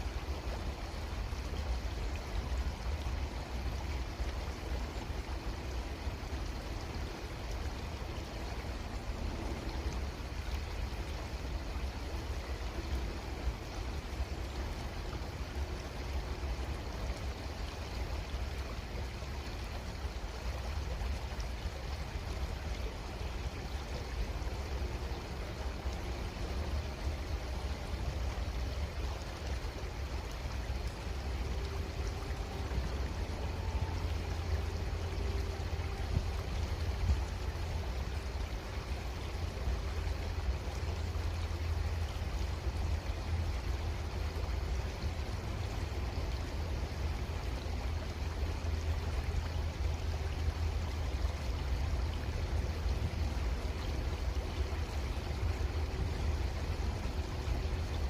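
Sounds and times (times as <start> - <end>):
creek water rushing: 0.0 - 58.0
low water rumble: 0.0 - 58.0.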